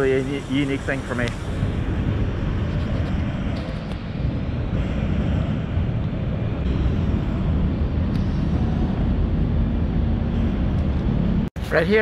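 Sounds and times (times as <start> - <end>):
city street noise: 0.0 - 12.0.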